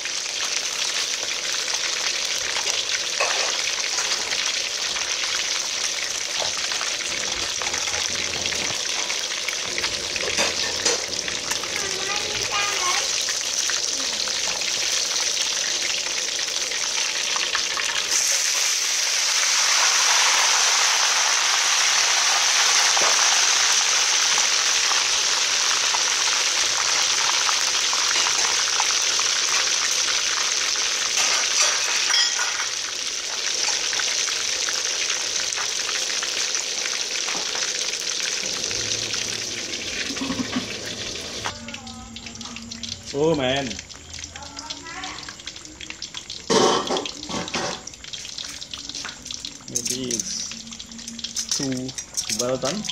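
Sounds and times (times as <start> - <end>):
fish sizzling in hot oil: 0.0 - 52.9.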